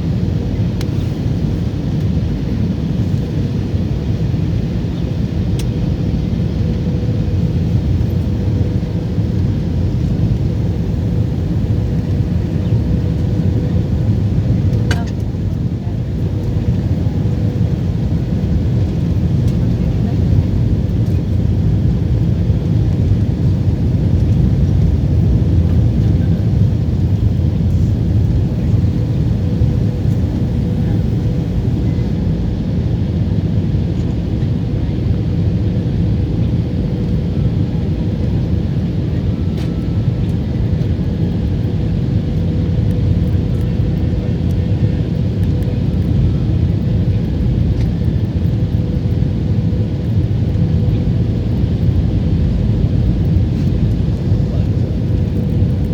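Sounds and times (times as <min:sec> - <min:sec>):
airliner engines rumbling in cabin: 0:00.0 - 0:55.9.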